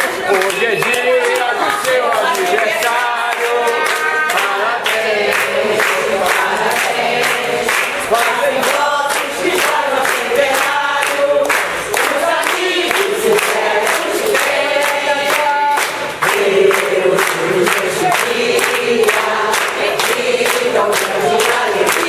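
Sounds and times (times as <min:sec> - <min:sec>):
crowd clapping in time: 0:00.0 - 0:22.0
crowd singing: 0:00.0 - 0:22.0.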